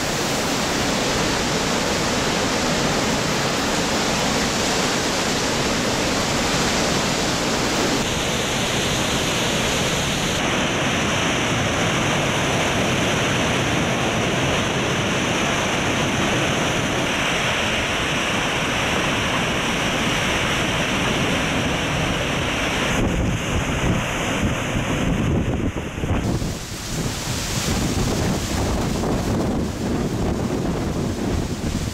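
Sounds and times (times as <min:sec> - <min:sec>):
heavy rain: 0:00.0 - 0:31.9
hurricane wind: 0:00.0 - 0:31.9.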